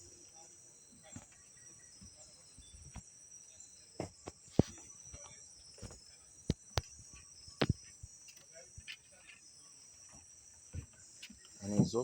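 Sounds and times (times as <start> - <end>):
crickets chorus: 0.0 - 12.0.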